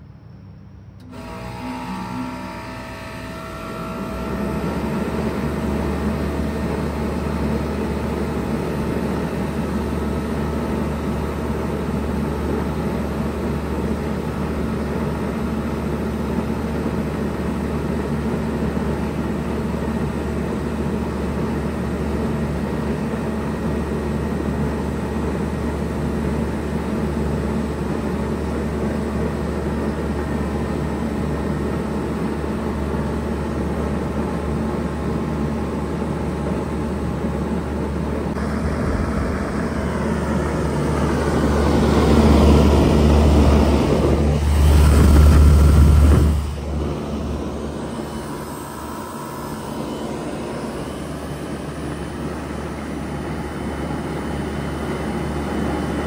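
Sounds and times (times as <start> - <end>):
compressor hum: 0.0 - 56.0
fan rushing: 1.0 - 56.0.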